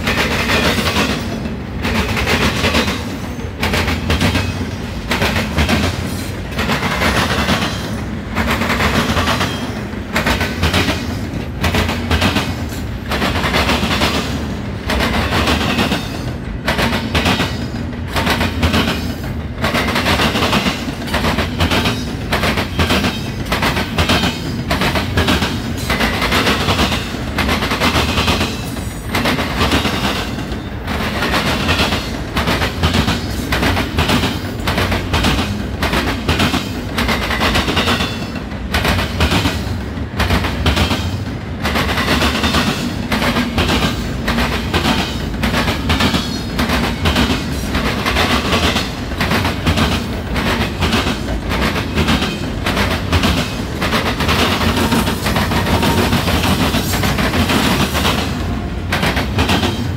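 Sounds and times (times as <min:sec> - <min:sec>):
steel wheels clacking on rail joints: 0:00.0 - 0:59.9
train cars rumbling by: 0:00.0 - 0:59.9.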